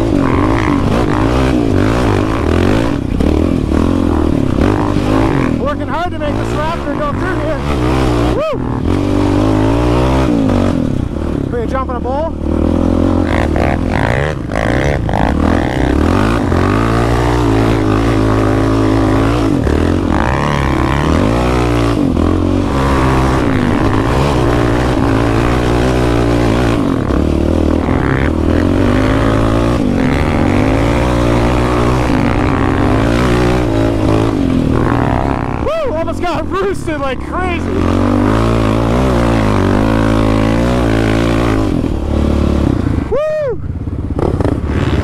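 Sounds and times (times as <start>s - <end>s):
quad engine revving: 0.0s - 45.0s.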